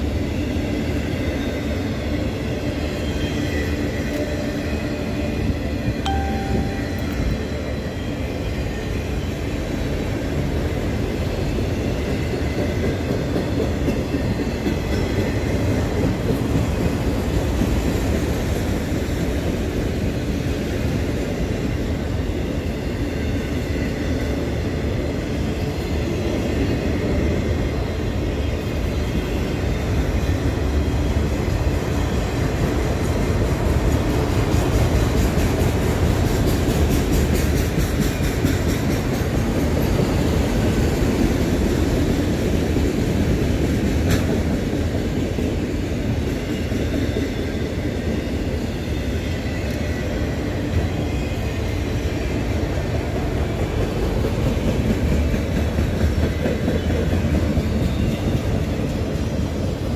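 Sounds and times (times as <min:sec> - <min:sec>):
freight train wheels rumbling on rail: 0:00.0 - 0:59.9.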